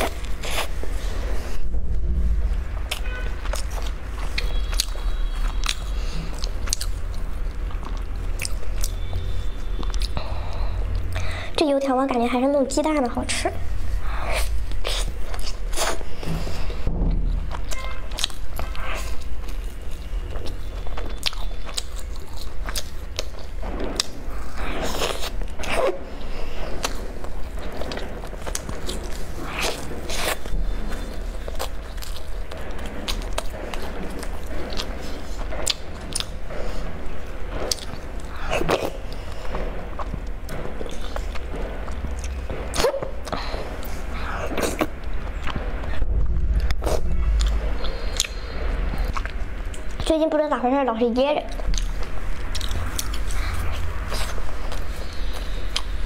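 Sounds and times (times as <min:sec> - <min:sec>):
crunchy chewing of pastry: 0:00.0 - 0:01.5, 0:02.9 - 0:11.1, 0:14.2 - 0:16.8, 0:17.8 - 0:46.0, 0:51.5 - 0:56.0
steady low hum: 0:00.0 - 0:56.0.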